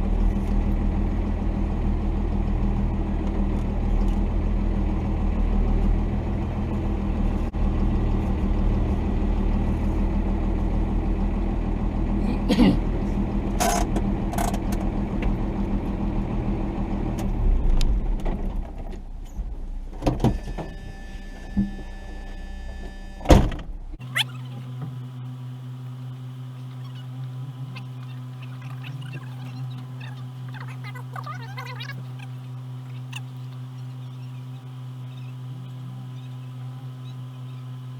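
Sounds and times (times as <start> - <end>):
diesel engine running: 0.0 - 37.9
steady low hum: 0.0 - 37.9.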